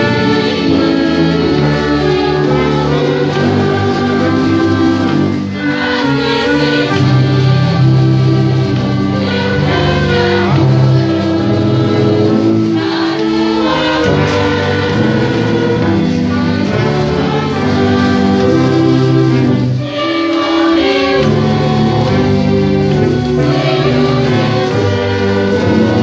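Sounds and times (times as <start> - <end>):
church orchestra: 0.0 - 26.0
congregation singing a hymn: 0.0 - 26.0.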